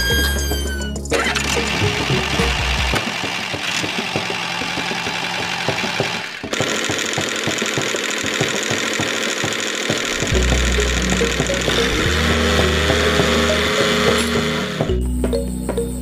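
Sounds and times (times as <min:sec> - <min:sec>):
small engine knocking rattle: 0:01.2 - 0:14.9.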